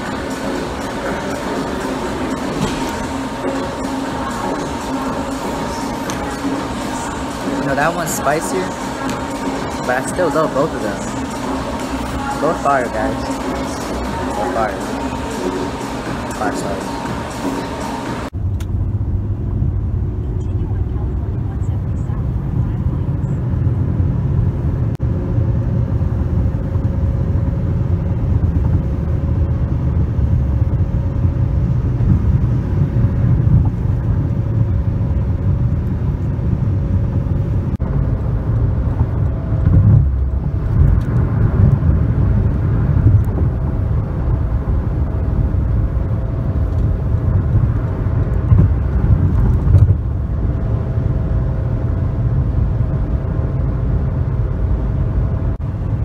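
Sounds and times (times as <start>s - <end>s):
car road and engine rumble: 0.0s - 56.0s
faint steady hum: 0.0s - 56.0s.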